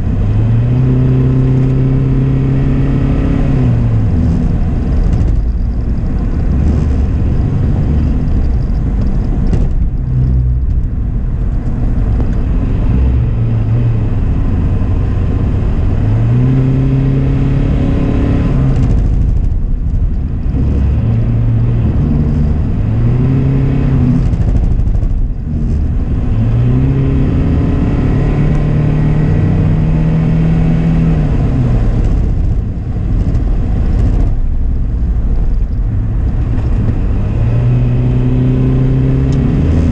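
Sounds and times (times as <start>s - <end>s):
car engine accelerating: 0.0s - 39.9s
road noise inside car: 0.0s - 39.9s.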